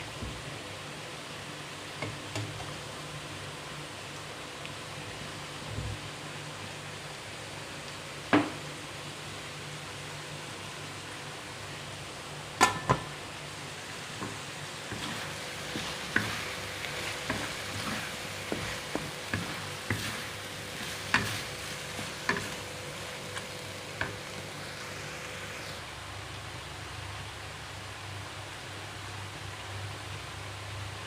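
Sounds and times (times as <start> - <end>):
food sizzling: 0.0 - 26.0.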